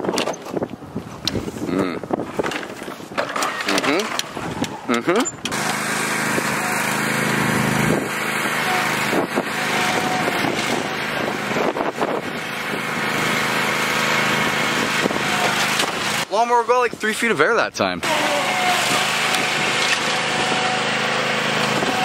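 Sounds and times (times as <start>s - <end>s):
lawn tractor engine running: 2.2s - 17.3s, 18.0s - 22.0s.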